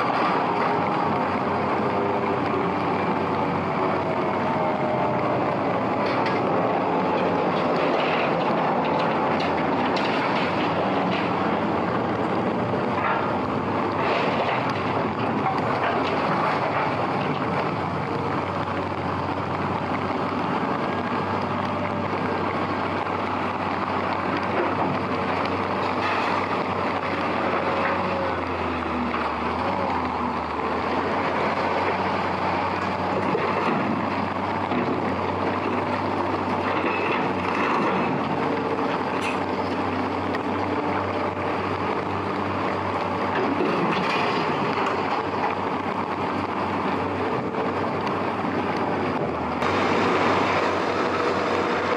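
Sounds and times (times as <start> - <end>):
heavy rain pouring: 0.0 - 51.9
vehicle engine hum: 0.0 - 51.9.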